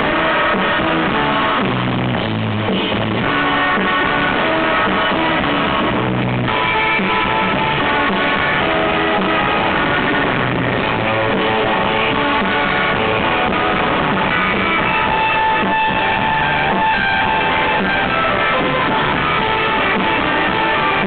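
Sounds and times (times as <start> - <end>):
electric guitar: 0.0 - 21.0
live surf rock band: 0.0 - 21.0.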